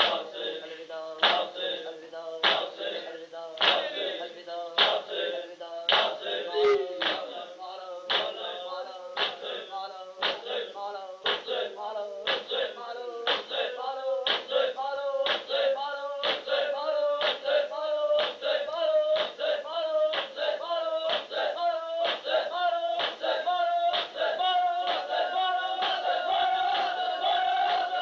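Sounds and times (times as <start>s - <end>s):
rhythmic chest-beating slaps: 0.0s - 0.5s, 1.2s - 3.0s, 3.6s - 5.3s, 5.9s - 6.4s, 7.0s - 28.0s
men chanting together: 0.0s - 28.0s.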